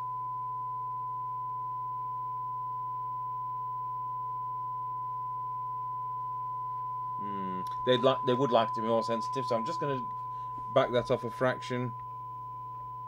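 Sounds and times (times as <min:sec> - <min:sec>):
low steady hum: 0:00.0 - 0:13.0
steady test tone from radio speaker: 0:00.0 - 0:13.0.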